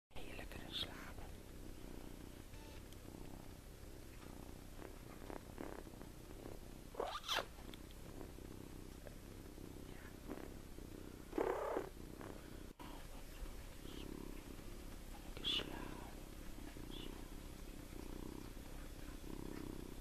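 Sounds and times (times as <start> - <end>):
kitten snoring: 0.2 - 20.0.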